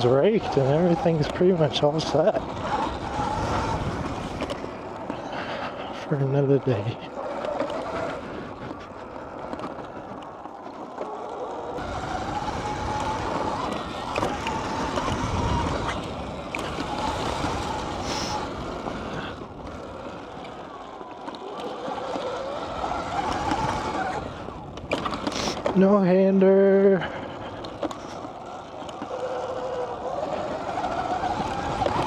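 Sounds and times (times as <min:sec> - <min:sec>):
wind rumbling on microphone: 0:00.0 - 0:10.7, 0:11.6 - 0:32.0
motorbike engine revving: 0:00.0 - 0:32.0.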